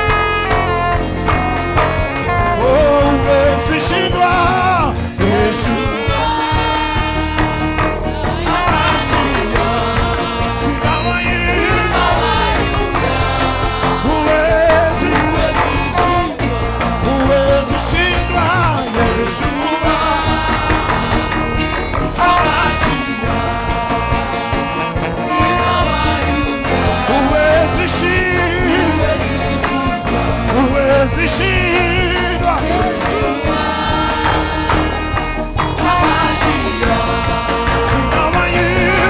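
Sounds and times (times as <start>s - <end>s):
band playing gospel song: 0.0s - 39.0s
steady bass: 0.0s - 39.0s
voices singing: 0.0s - 39.0s.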